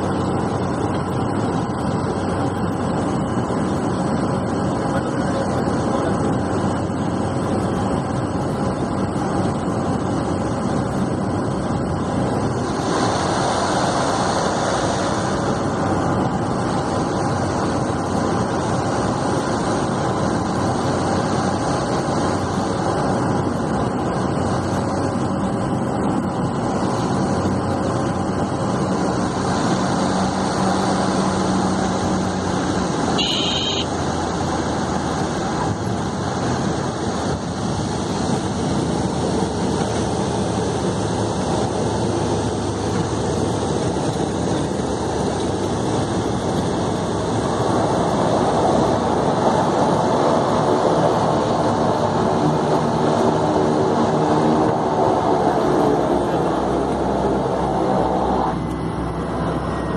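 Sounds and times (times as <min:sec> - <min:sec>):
turboprop engine drone: 0:00.0 - 0:59.9.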